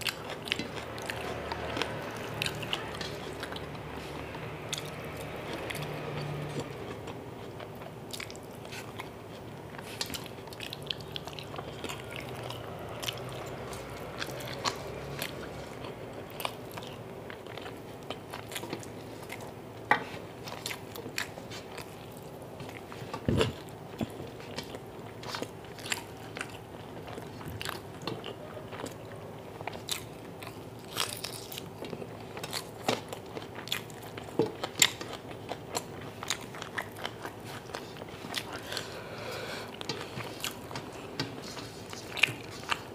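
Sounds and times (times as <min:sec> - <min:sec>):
chewing and crunching: 0:00.0 - 0:42.9
faint steady hum: 0:00.0 - 0:42.9.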